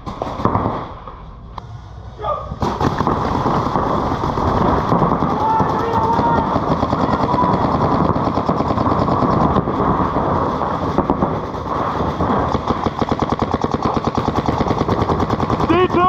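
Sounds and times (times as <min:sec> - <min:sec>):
paintball markers firing: 0:02.6 - 0:16.0.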